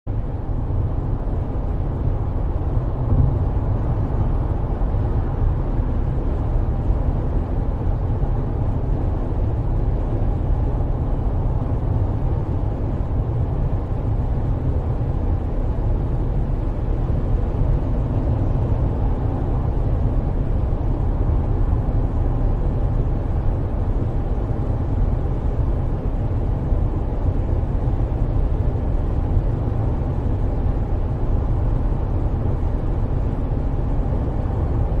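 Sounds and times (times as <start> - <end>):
road vehicle rumble: 0.1 - 35.0.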